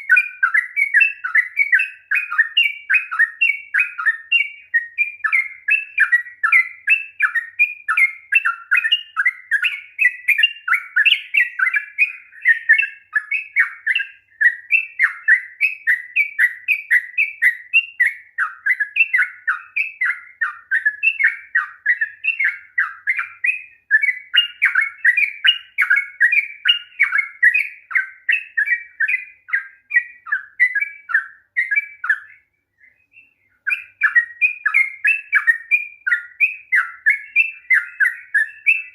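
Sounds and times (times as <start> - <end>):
bird singing chattering notes: 0.0 - 38.9.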